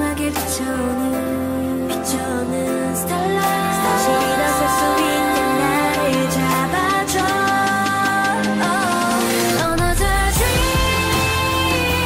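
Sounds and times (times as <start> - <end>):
background pop music: 0.0 - 12.0.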